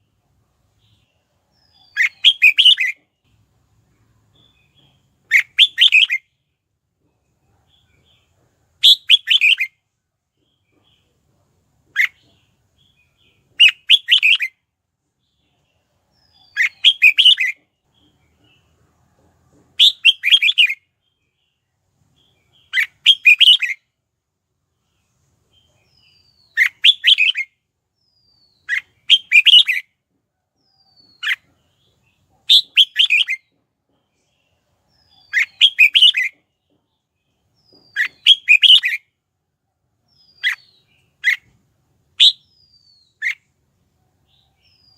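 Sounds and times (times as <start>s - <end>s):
bird singing bright phrases: 0.0s - 11.2s, 11.8s - 23.9s, 24.7s - 29.9s, 30.6s - 39.2s, 39.9s - 44.9s.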